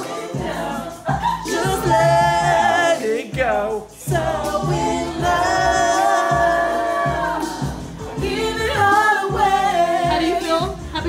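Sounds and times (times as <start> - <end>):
pulsing bass beat: 0.3 - 11.0.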